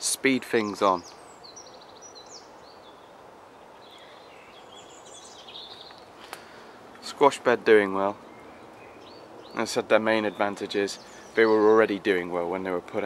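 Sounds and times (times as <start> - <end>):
quiet background hiss: 0.0 - 13.0
small birds chirping and trilling: 0.0 - 13.0.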